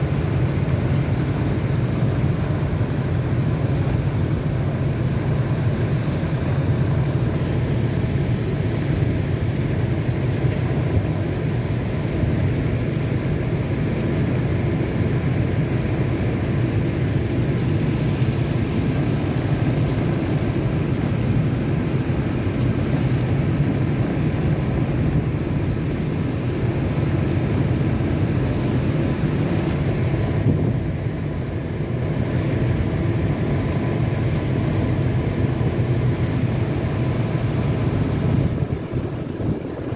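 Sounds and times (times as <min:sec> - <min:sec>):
boat engine drone: 0:00.0 - 0:39.9
faint high whine: 0:00.0 - 0:39.9.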